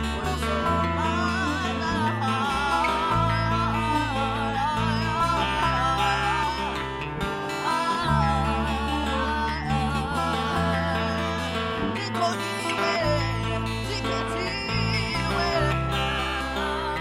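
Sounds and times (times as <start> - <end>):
held bass notes: 0.0 - 17.0
plucked strings: 0.0 - 17.0
woman singing: 0.0 - 17.0.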